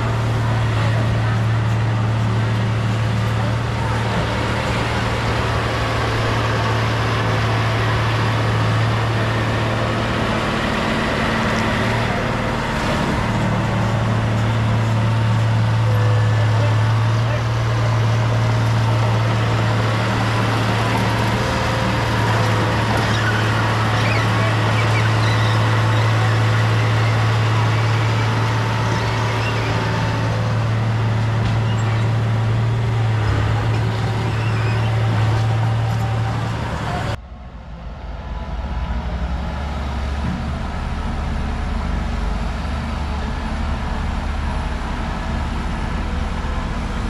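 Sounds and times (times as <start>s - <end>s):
heavy machine diesel engine humming: 0.0s - 47.0s.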